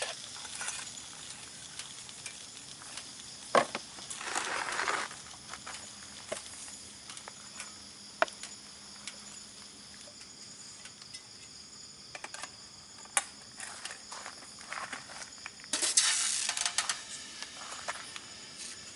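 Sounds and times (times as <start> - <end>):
night insects chirring: 0.0 - 18.9
wood stove crackling and popping: 0.0 - 18.9.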